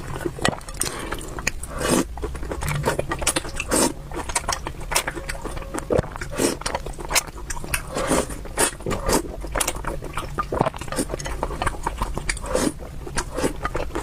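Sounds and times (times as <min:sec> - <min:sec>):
chewing and mouth noises: 0:00.0 - 0:14.0.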